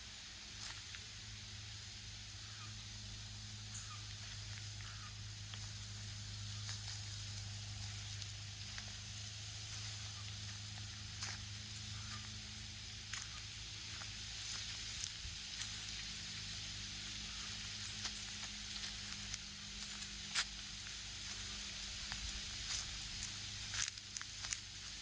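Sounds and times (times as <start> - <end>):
low hum and hiss: 0.0 - 25.0
footsteps crunching: 0.4 - 25.0.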